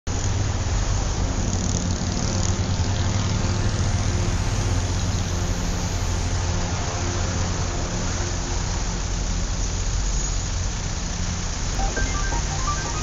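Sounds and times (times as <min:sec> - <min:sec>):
city traffic rumble: 0:00.1 - 0:11.8
constant hiss: 0:00.2 - 0:13.0.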